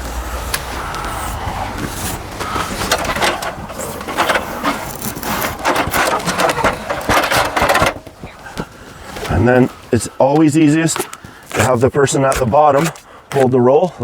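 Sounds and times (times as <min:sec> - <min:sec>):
adhesive tape crackling and rustling: 0:00.1 - 0:14.0.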